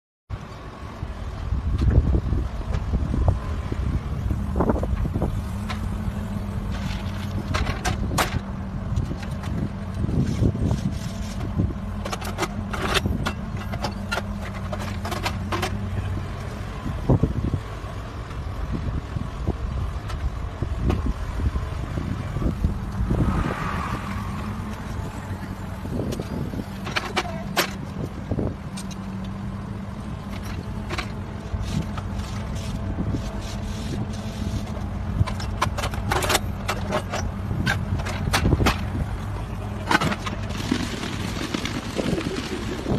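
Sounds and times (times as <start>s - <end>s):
diesel engine running: 0.3s - 42.9s.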